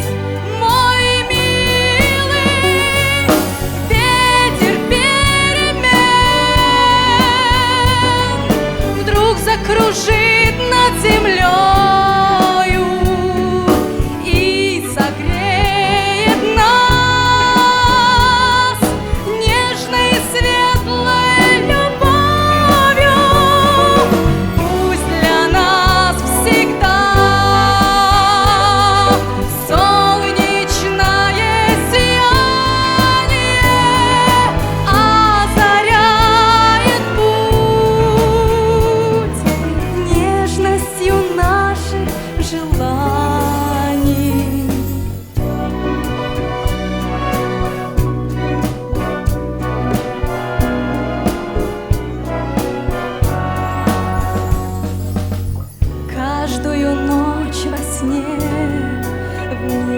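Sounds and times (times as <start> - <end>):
person singing with vibrato: 0.0 - 45.4, 55.9 - 59.9
instrumental accompaniment: 0.0 - 59.9.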